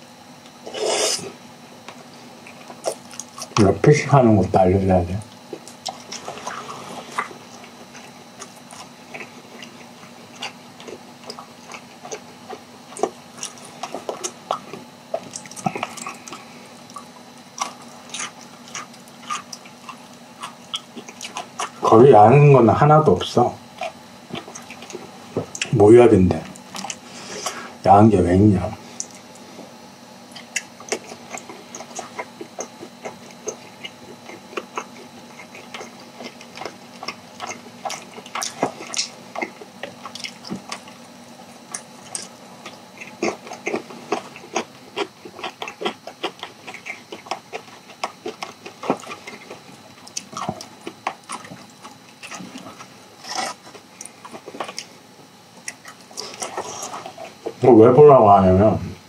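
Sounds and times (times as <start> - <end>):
person chewing with mouth clicks: 2.0 - 3.7, 5.2 - 21.9, 23.7 - 25.8, 26.4 - 27.8, 28.8 - 57.6.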